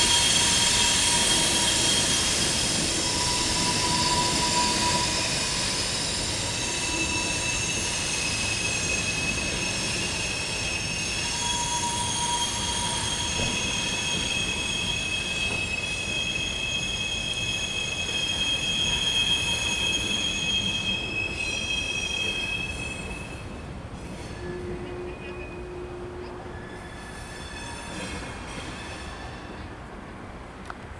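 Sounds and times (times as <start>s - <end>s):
train wheels squealing: 0.0s - 29.9s
rumble of rolling train cars: 0.0s - 30.9s.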